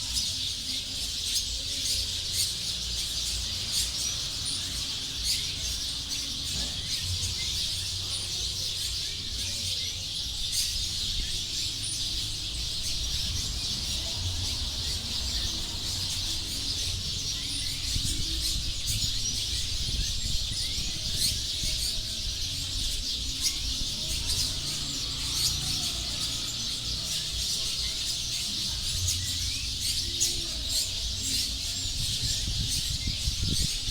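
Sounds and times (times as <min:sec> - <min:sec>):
flock of birds twittering: 0:00.0 - 0:33.9.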